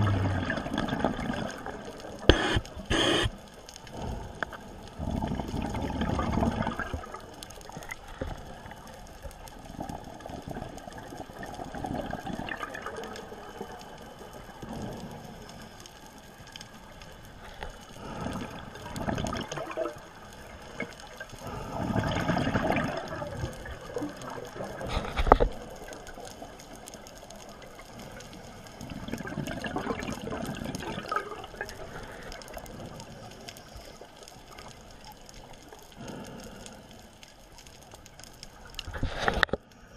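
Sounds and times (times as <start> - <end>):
muffled underwater noise: 0.0 - 37.1
bubbling: 0.0 - 39.6.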